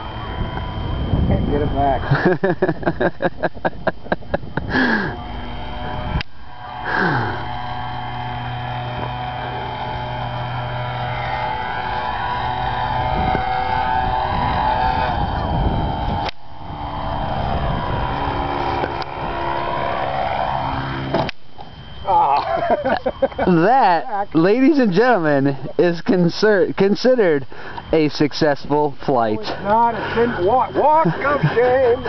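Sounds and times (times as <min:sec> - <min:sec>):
model airplane motor and propeller: 0:00.0 - 0:32.0.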